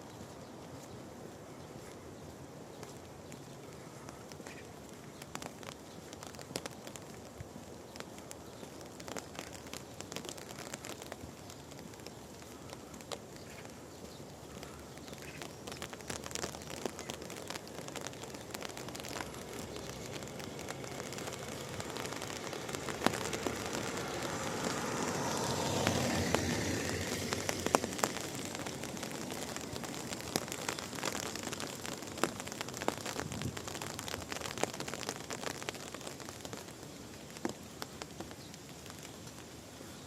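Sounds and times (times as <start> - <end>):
raindrops ticking close by: 0.0 - 40.0
steady rain: 0.0 - 40.0.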